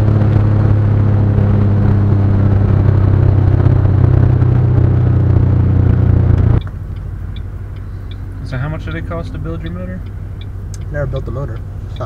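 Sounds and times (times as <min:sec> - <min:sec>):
car engine running loudly: 0:00.0 - 0:12.0.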